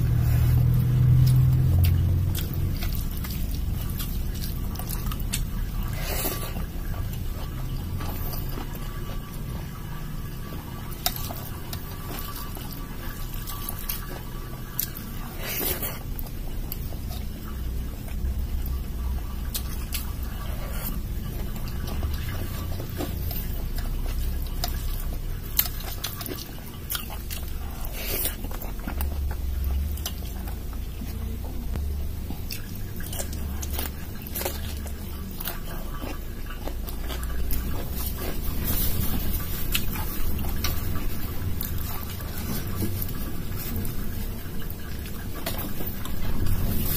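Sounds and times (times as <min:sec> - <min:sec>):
low steady hum: 0:00.0 - 0:46.9
person chewing: 0:00.0 - 0:46.9.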